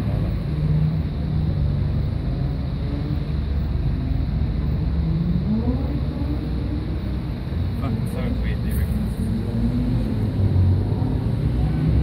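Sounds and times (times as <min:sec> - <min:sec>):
cars driving past: 0:00.0 - 0:12.0
engine revving: 0:00.4 - 0:12.0.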